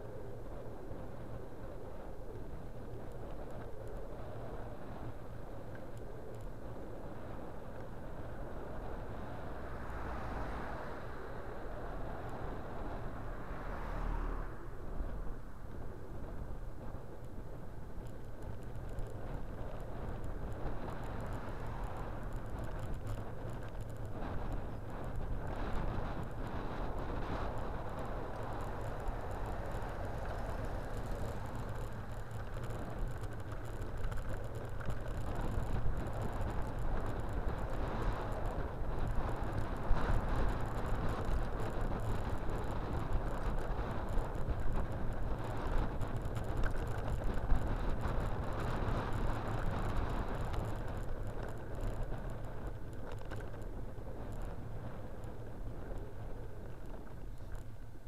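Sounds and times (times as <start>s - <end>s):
bicycle ride rumble: 0.0s - 58.0s
wind noise: 0.0s - 58.0s.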